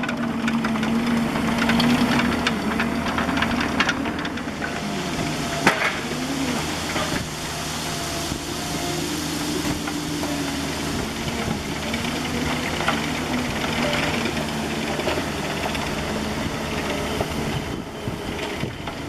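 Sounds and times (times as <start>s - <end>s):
excavator diesel engine working: 0.0s - 19.0s.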